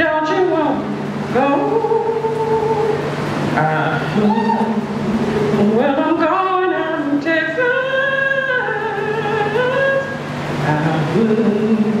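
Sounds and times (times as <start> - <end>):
person singing long sliding notes: 0.0 - 12.0.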